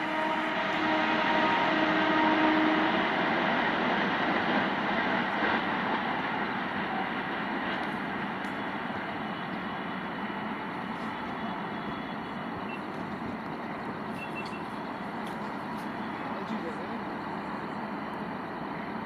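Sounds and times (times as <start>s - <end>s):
train wheels rushing on rail: 0.0s - 19.0s.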